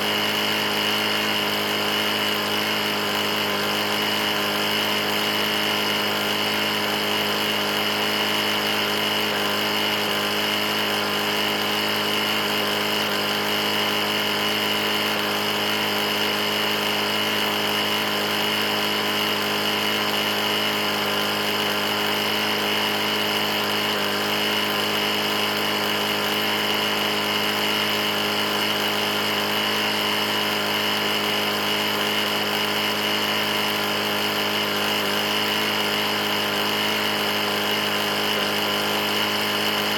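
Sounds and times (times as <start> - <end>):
lawn mower engine knocking: 0.0 - 39.9.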